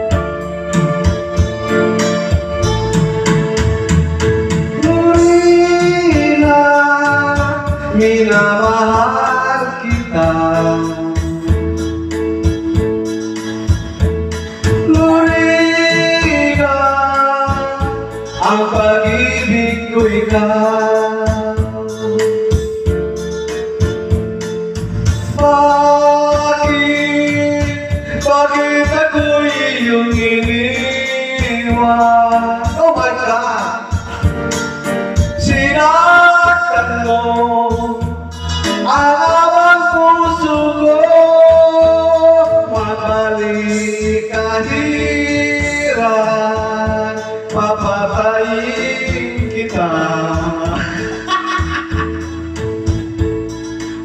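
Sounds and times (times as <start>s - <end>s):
karaoke backing track: 0.0s - 54.0s
man singing into microphone: 0.0s - 54.0s.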